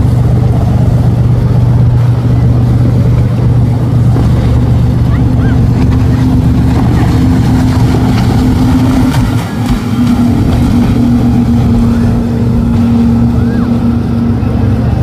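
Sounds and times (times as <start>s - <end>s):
boat engines droning: 0.0s - 15.0s
higher engine note: 0.0s - 15.0s.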